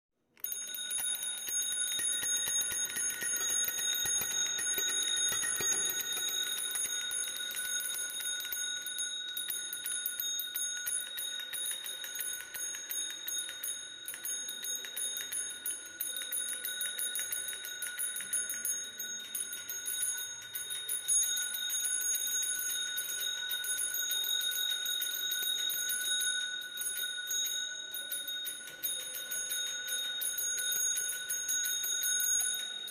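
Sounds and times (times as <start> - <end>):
bicycle bell ringing rapidly: 0.4 - 32.9.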